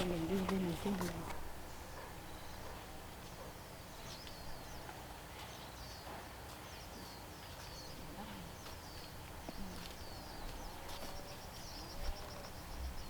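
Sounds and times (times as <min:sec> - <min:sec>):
bird chirping: 0:00.0 - 0:13.0
faint outdoor background: 0:00.0 - 0:13.0.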